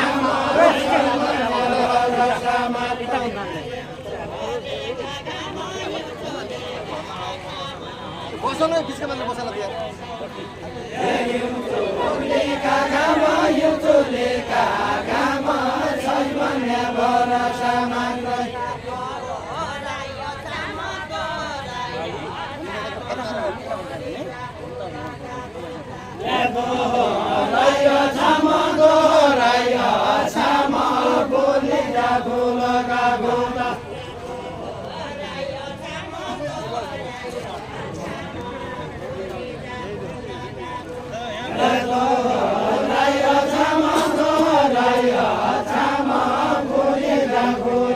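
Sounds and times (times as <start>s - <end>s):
voices singing folk song together: 0.0s - 47.9s.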